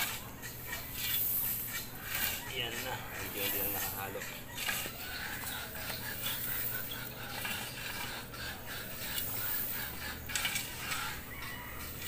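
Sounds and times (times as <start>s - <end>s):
hand tool scraping dry pile: 0.0s - 12.0s.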